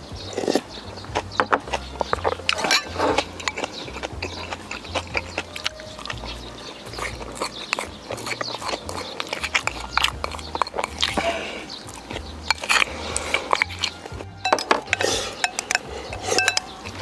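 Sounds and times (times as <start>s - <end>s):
mouth clicks and smacks: 0.0s - 17.0s
person chewing and biting food: 0.2s - 17.0s.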